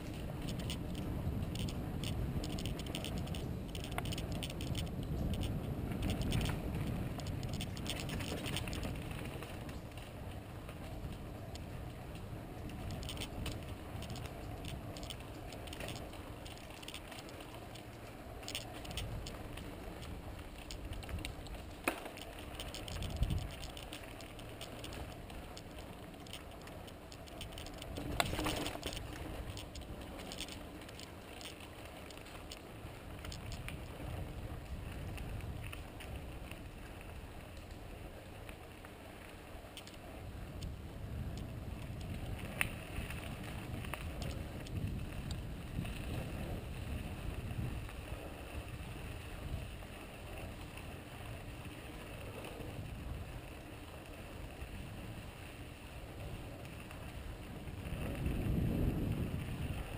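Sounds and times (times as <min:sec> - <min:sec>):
bike rattles and clicks: 0:00.0 - 0:59.9
bike tyres on packed dirt: 0:00.0 - 0:59.9.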